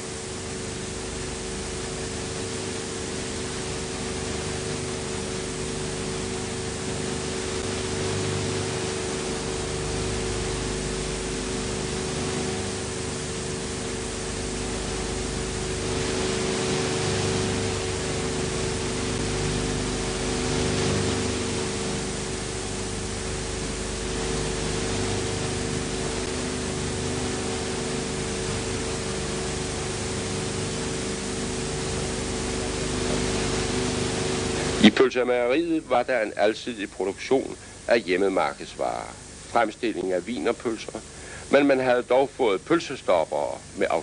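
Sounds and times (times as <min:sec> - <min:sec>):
constant hum tone: 0:00.0 - 0:44.0
film hiss: 0:00.0 - 0:44.0.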